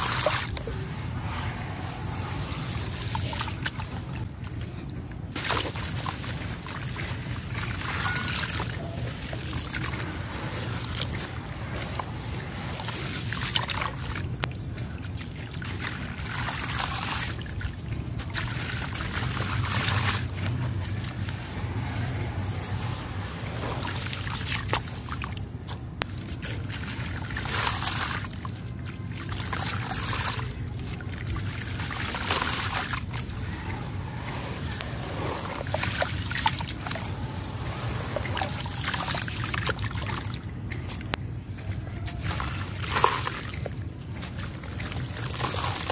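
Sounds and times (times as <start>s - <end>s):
hands sloshing wet slurry: 0.0s - 45.9s.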